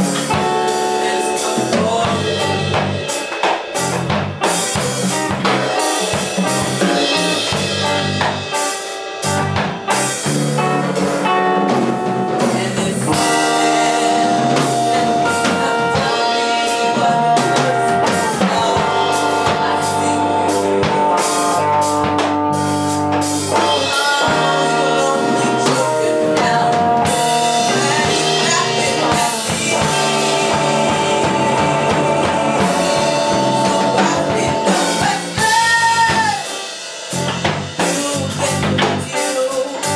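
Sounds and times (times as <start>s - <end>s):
bass: 0.0s - 39.9s
drum kit: 0.0s - 39.9s
live blues band: 0.0s - 39.9s.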